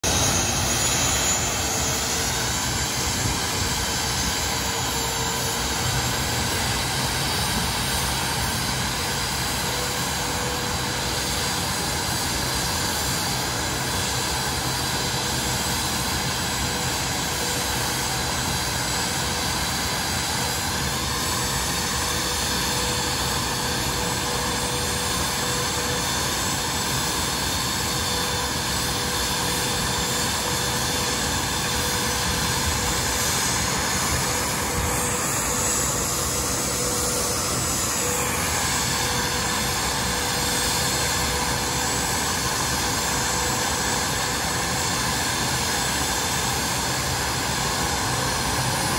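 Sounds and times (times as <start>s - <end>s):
jet engine running: 0.0s - 48.9s.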